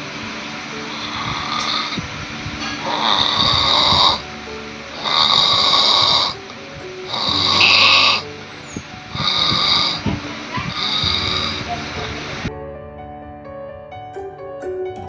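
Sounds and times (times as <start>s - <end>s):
person snoring loudly: 0.0s - 12.5s.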